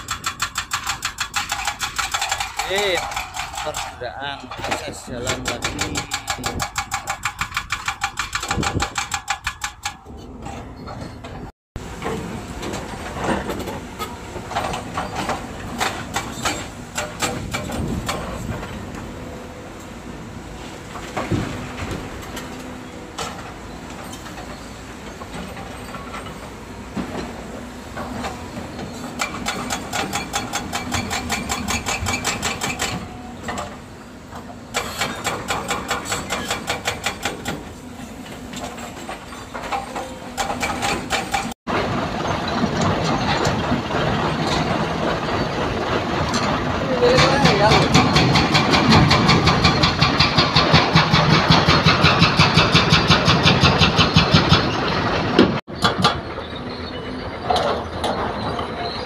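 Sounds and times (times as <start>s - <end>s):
crawler tracks clanking: 0.0s - 59.0s
diesel engines under load: 0.0s - 59.0s.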